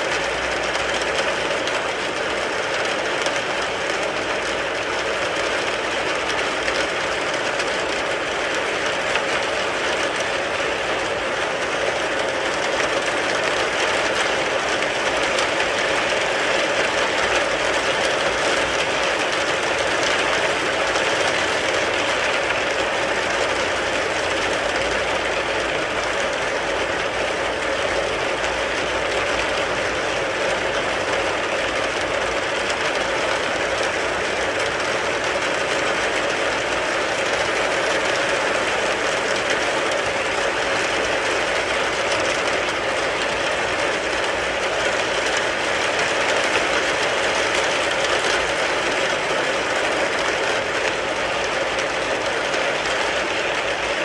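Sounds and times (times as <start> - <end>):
rain pattering on a car: 0.0 - 54.0.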